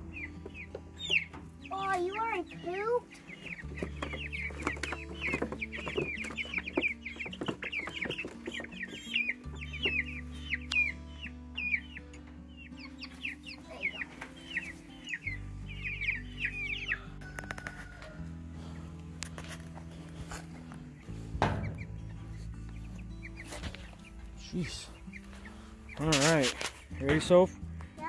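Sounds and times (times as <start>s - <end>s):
background music with held notes: 0.0s - 28.0s
chicks peeping: 0.0s - 28.0s.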